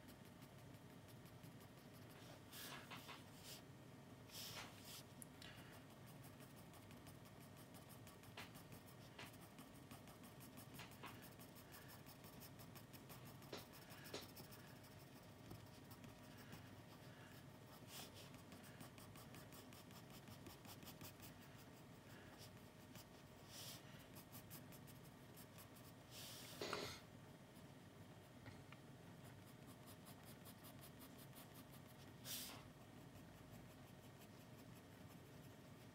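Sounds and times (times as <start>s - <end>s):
pencil scratching on paper: 0.0s - 3.7s, 4.3s - 26.7s, 29.1s - 35.9s.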